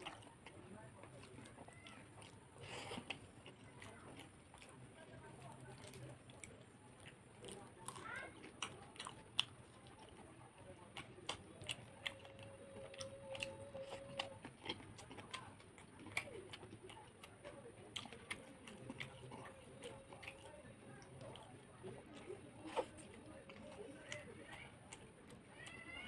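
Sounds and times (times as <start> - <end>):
chewing and lip smacking: 0.0 - 26.0.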